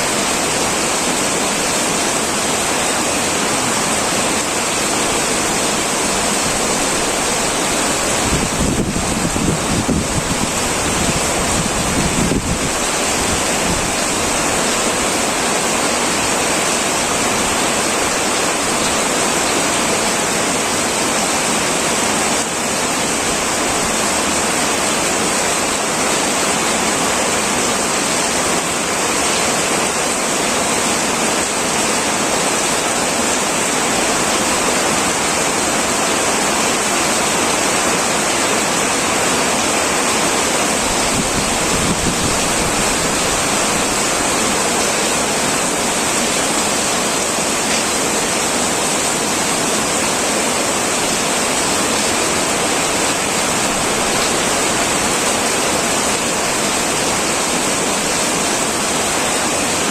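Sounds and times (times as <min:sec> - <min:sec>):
heavy rain on a metal roof: 0:00.0 - 0:59.9.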